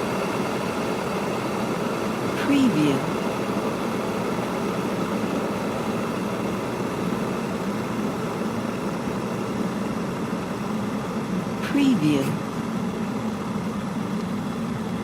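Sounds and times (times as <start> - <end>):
kettle heating water: 0.0 - 11.7, 12.4 - 15.0.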